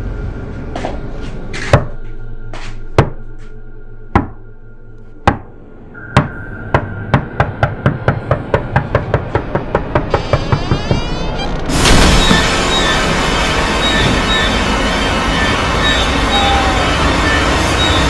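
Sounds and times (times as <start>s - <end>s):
low sustained drone: 0.0s - 18.0s.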